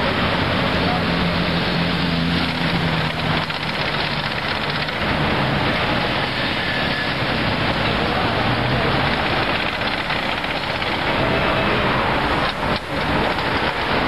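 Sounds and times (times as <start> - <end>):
heavy street traffic: 0.0 - 14.0.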